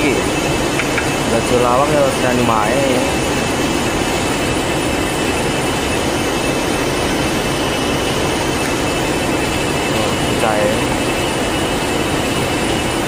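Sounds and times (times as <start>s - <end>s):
high steady whine: 0.0s - 13.0s
mechanical roar: 0.0s - 13.0s.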